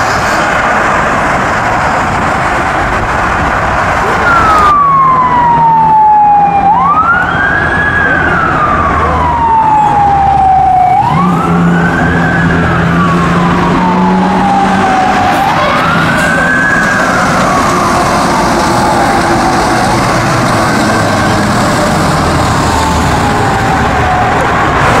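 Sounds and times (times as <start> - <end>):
traffic noise: 0.0 - 25.0
siren wailing: 3.9 - 25.0.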